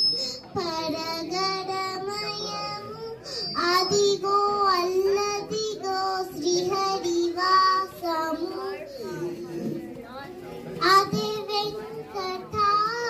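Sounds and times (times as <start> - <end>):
girl singing into a microphone: 0.1 - 9.8, 10.8 - 13.0.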